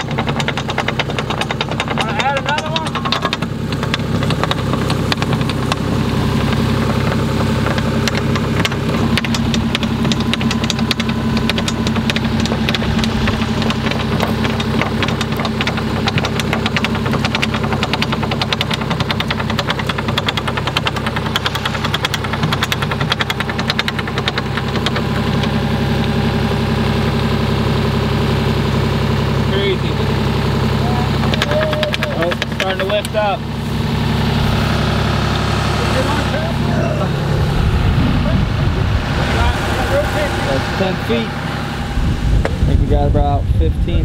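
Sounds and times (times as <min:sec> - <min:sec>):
engine idling with knocking clatter: 0:00.0 - 0:44.0.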